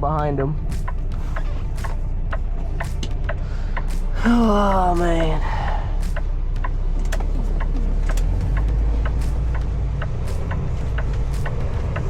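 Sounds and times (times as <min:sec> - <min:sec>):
truck engine rumbling: 0:00.0 - 0:12.0
turn signal ticking: 0:00.0 - 0:12.0.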